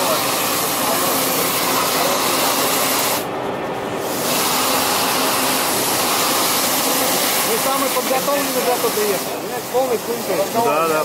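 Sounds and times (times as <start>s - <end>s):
sanding brush drum hissing: 0.0s - 3.3s, 4.0s - 11.0s.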